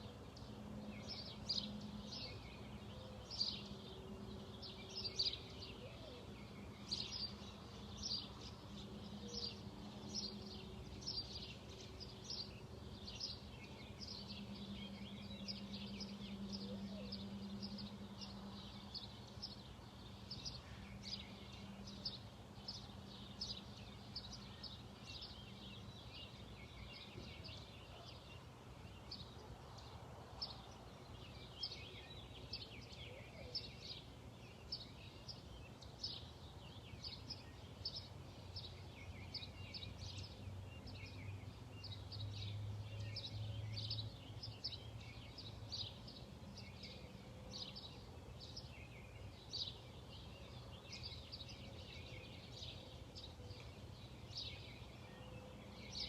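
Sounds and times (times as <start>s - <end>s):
low steady hum: 0.0s - 56.0s
songbirds chirping and singing: 0.0s - 56.0s.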